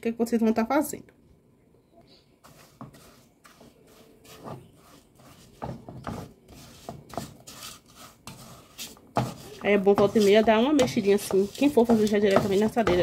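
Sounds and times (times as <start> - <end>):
wooden spoon scraping sugar in pan: 2.4 - 13.0.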